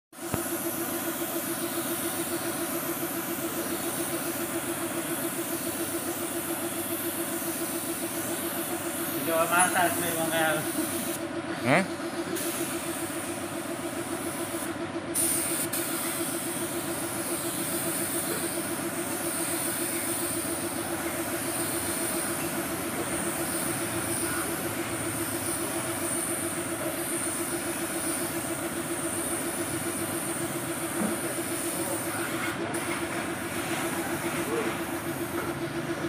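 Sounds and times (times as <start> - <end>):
machine drone with hiss: 0.2 - 36.0.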